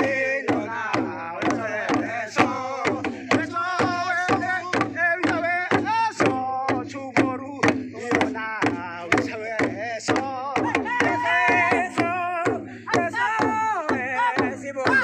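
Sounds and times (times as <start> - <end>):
group singing a chant: 0.0 - 15.0
hand drum beating: 0.0 - 15.0.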